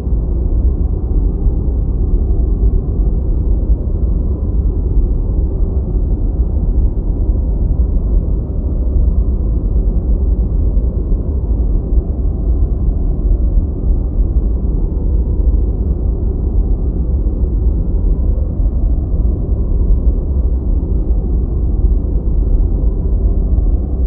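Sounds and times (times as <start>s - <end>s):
deep white noise: 0.0s - 24.0s.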